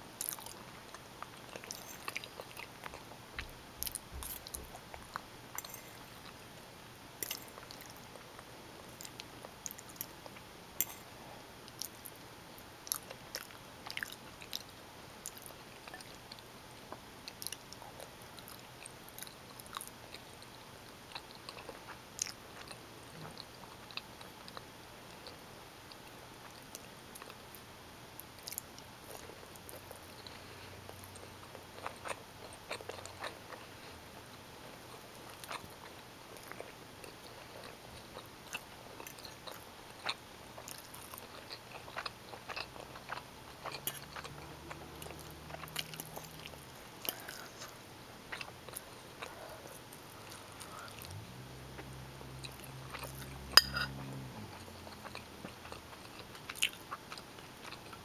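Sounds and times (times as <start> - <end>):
low steady hum: 0.0 - 58.0
close chewing of pasta: 0.1 - 58.0.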